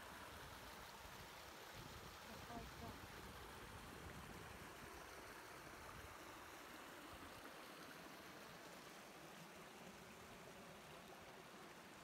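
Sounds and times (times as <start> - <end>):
faint river rushing: 0.0 - 12.0.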